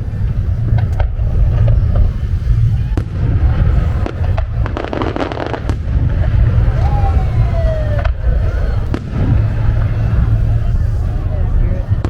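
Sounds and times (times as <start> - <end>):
fireworks cracking: 0.0 - 12.0
fireworks crackling: 0.0 - 12.0
fireworks rumble: 0.0 - 12.0.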